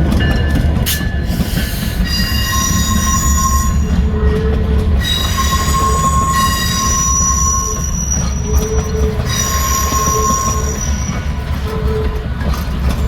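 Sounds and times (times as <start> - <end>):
low rumble of moving train cars: 0.0 - 13.0
train wheels squealing: 0.3 - 13.0.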